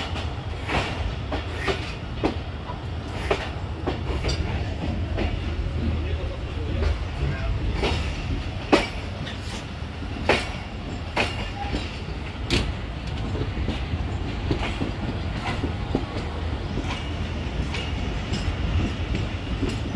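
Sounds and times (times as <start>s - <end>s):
train rumbling: 0.0s - 19.9s
train wheels clicking over rail joints: 0.0s - 19.9s.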